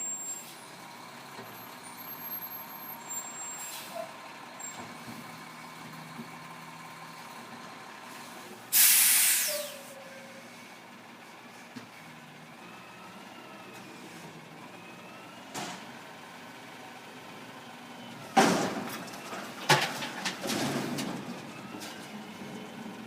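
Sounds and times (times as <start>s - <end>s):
garbage truck idling: 0.0s - 23.0s.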